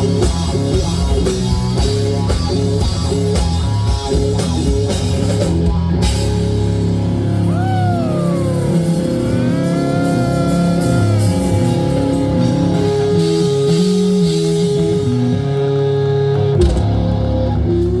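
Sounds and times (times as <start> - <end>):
electric guitar bending notes: 0.0 - 18.0
live rock band playing: 0.0 - 18.0.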